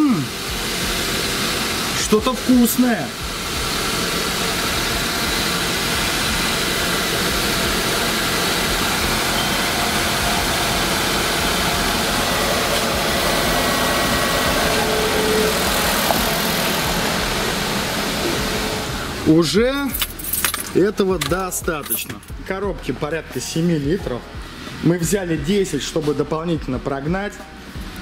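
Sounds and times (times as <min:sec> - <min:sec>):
car engine idling: 0:00.0 - 0:23.3.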